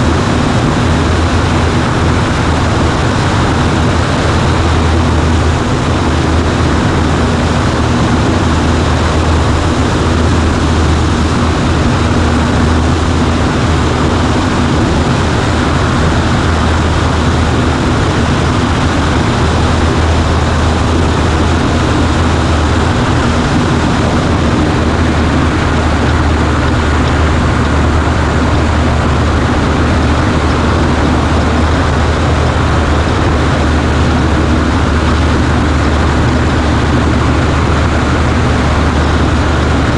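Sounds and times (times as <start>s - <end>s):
light plane engine droning: 0.0s - 39.9s.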